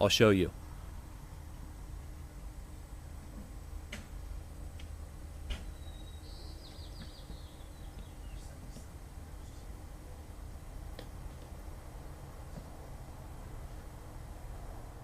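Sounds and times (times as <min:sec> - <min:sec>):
heat pump compressor humming: 0:00.0 - 0:15.0.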